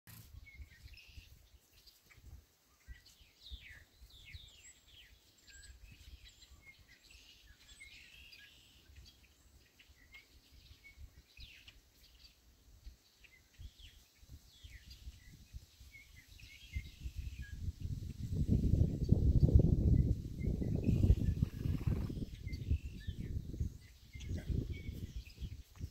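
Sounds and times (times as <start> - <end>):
songbird chirping: 0.1 - 25.9.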